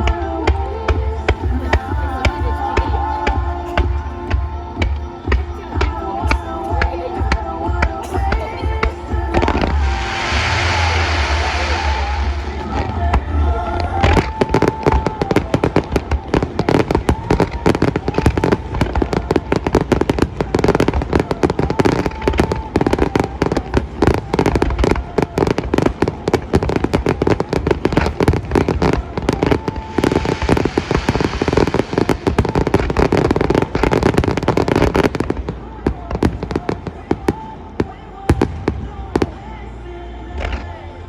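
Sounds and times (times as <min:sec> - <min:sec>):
fireworks bursting and crackling: 0:00.0 - 0:39.6.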